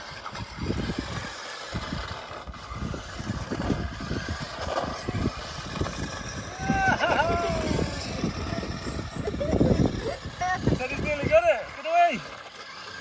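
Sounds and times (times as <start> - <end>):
toy car electric motor: 0.0 - 13.0
tyres on gravel: 0.0 - 13.0.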